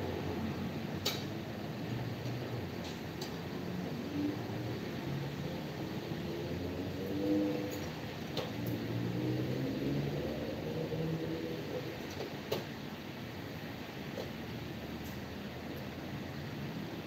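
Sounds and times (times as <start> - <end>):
passing vehicle engines hum: 0.0 - 15.6.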